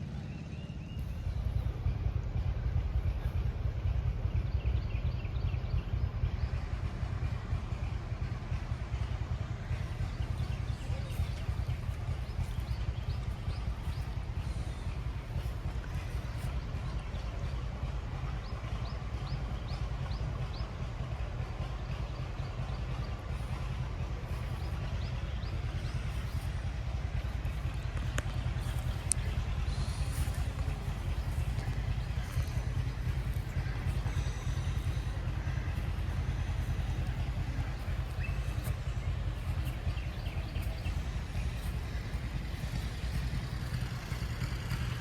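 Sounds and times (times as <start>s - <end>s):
engine running with low beat: 0.0s - 45.0s.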